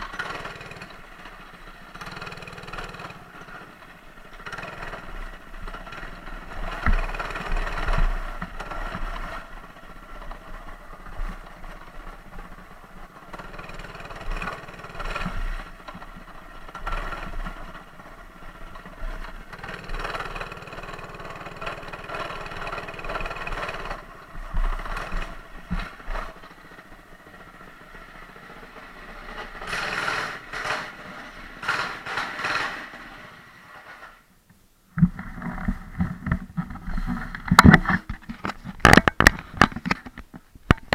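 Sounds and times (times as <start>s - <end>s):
bike rattles and knocks: 0.0s - 33.2s, 35.0s - 40.9s
small bike engine running: 0.0s - 34.2s.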